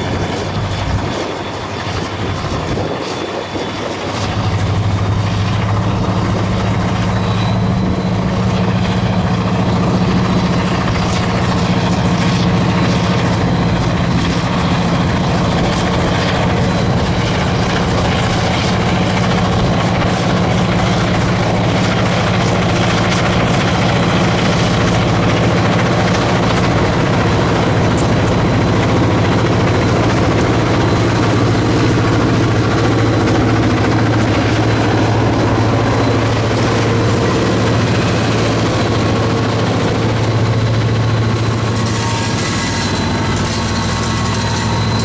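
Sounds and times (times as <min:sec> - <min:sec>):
diesel locomotive engine drone: 0:00.0 - 0:45.0
freight cars rolling: 0:00.0 - 0:45.0.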